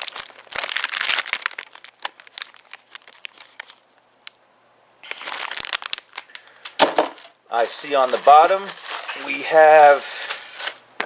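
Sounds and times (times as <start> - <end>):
packaging crinkling: 0.0 - 4.4, 5.0 - 10.9.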